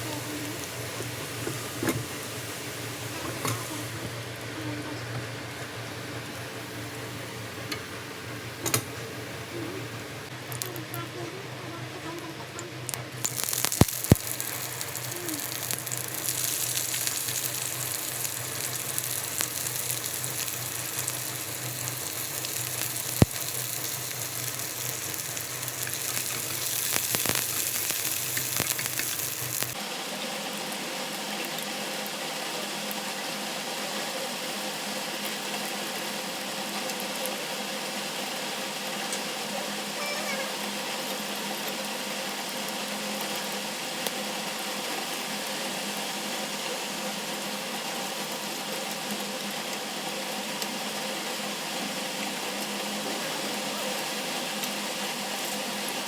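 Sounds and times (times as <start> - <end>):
food sizzling in hot oil: 0.0 - 56.0.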